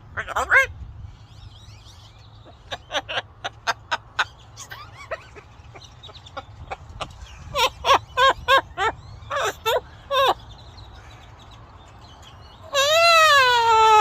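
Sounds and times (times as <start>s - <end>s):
parrot chirping calls: 0.0s - 14.0s.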